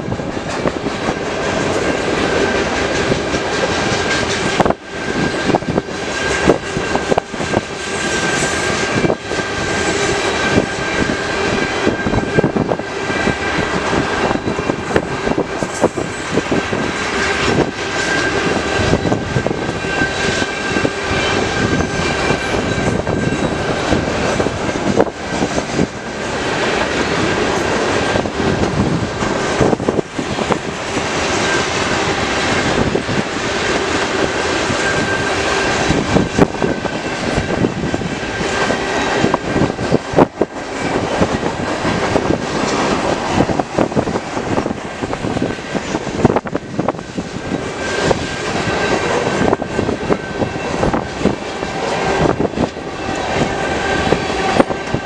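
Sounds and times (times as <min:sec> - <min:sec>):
high-pitched whine: 0:00.0 - 0:55.0
train wheels rumbling on rail: 0:00.0 - 0:55.0
wheels clicking over rail joints: 0:00.0 - 0:55.0.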